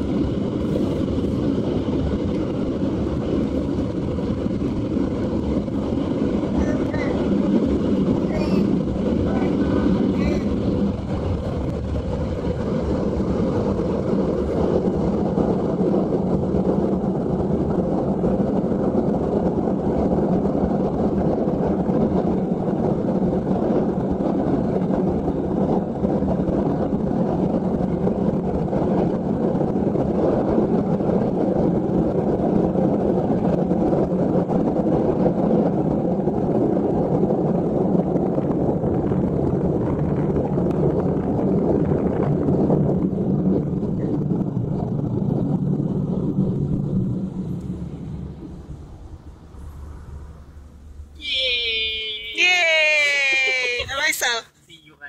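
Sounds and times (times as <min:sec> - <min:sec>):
mechanical drone inside a car: 0:00.0 - 0:55.0.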